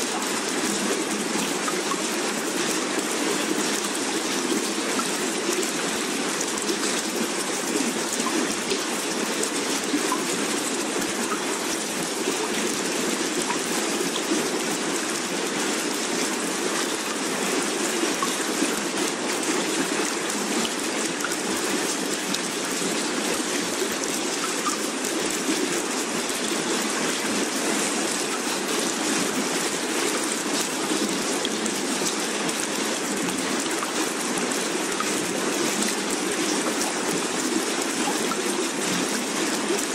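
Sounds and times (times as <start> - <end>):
steady running water hiss: 0.0 - 39.9.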